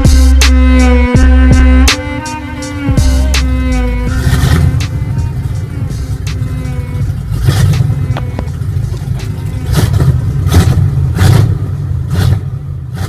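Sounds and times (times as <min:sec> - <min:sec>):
engine revving in sharp blips: 0:00.0 - 0:13.0.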